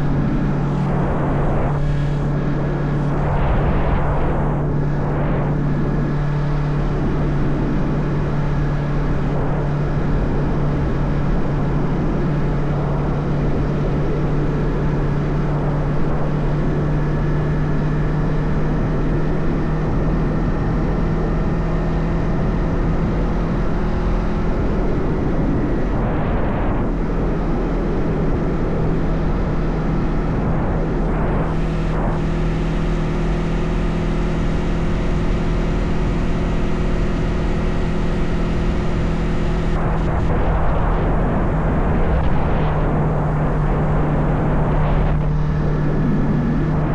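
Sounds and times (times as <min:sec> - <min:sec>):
motorcycle engine cruising: 0:00.0 - 0:46.9
road noise: 0:00.0 - 0:46.9
wind noise: 0:00.0 - 0:46.9.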